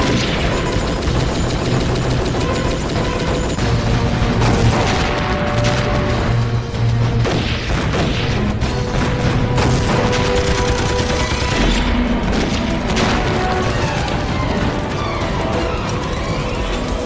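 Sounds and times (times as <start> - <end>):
background music: 0.0 - 17.0
rapid machine-gun fire: 0.0 - 17.0.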